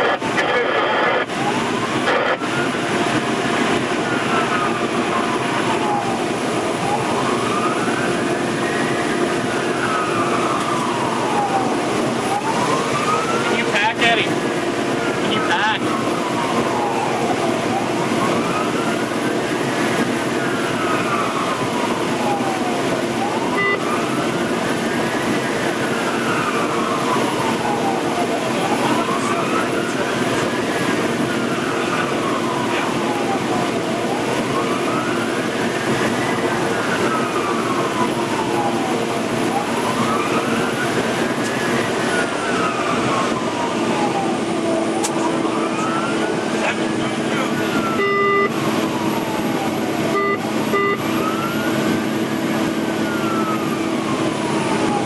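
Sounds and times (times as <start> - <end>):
fire engine siren wailing: 0.0 - 55.0
truck engine and road noise: 0.0 - 55.0.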